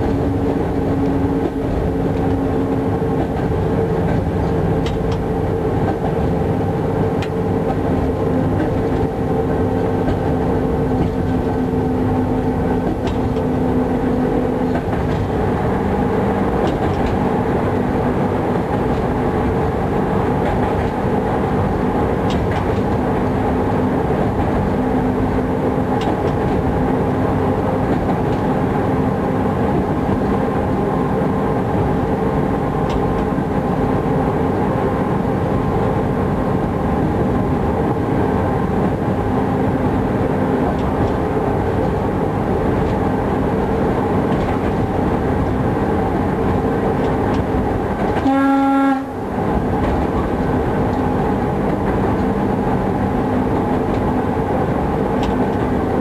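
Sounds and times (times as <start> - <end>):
locomotive mechanical hum: 0.0 - 56.0.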